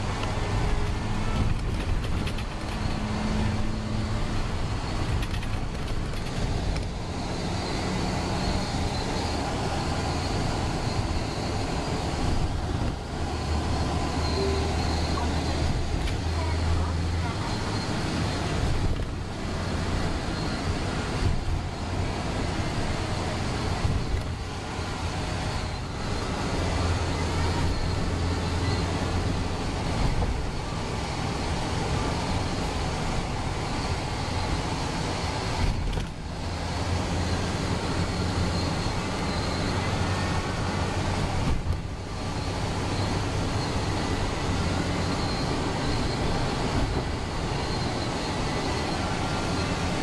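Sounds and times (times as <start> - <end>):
bus road and engine noise: 0.0 - 50.0.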